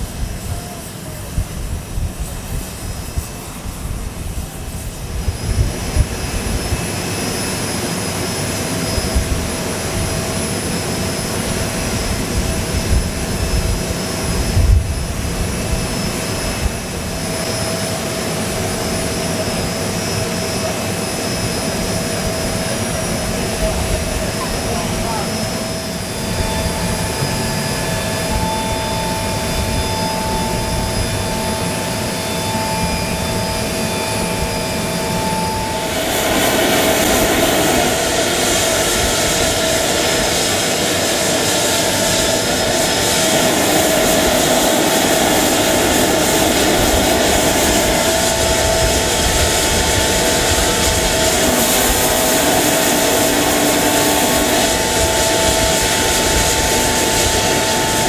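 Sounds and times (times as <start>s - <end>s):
jet turbine whine and rush: 0.0s - 58.0s.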